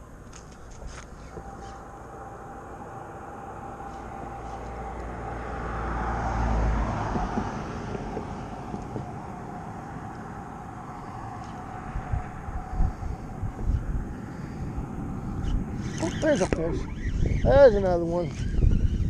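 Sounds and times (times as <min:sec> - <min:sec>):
aircraft passing overhead: 0:00.0 - 0:19.0.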